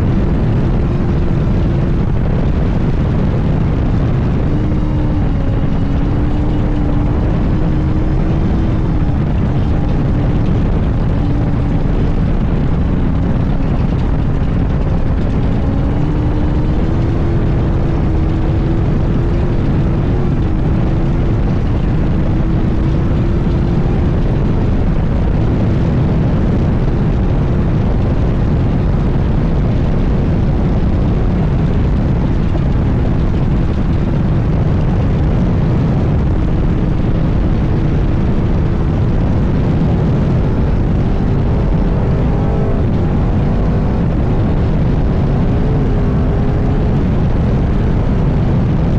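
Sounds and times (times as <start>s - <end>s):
race car engine rumble: 0.0s - 48.9s.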